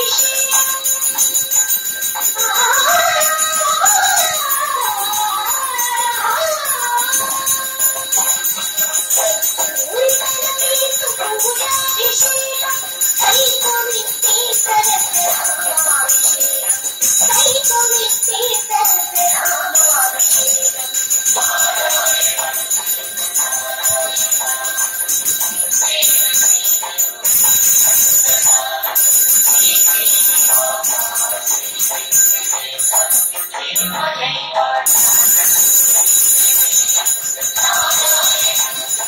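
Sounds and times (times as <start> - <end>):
brass hand bell ringing: 0.0 - 34.2, 34.8 - 39.0.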